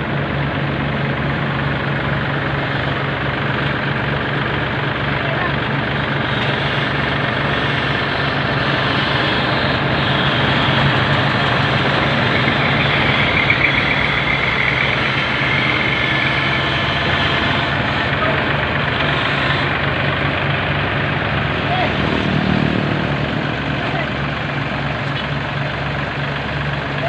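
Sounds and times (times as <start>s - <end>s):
high fluttering whine: 0.0s - 26.9s
harvester engine running: 0.0s - 27.0s.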